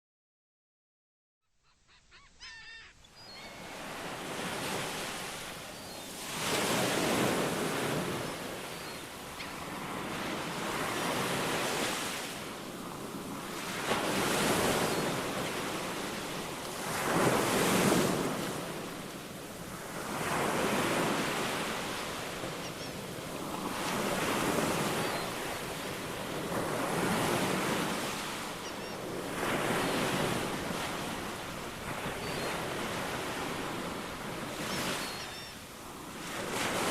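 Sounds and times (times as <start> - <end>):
waves breaking: 3.6 - 35.2.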